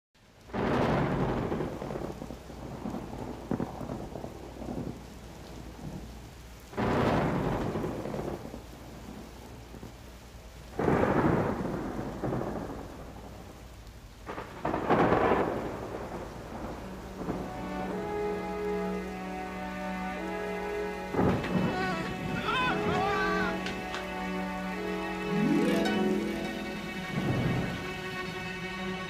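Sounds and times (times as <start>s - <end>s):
rain falling steadily: 0.2s - 29.0s
thunderclaps rumbling: 0.4s - 29.0s.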